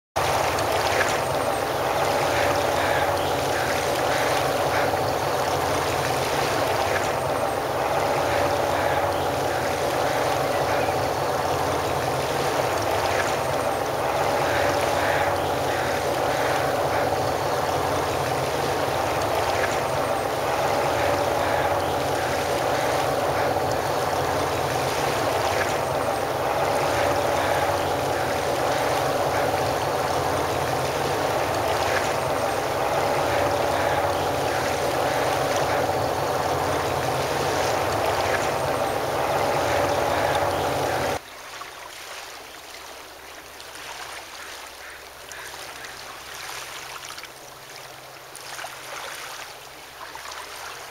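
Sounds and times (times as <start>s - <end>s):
ship machinery hum: 0.2s - 41.2s
water rushing: 0.2s - 50.9s.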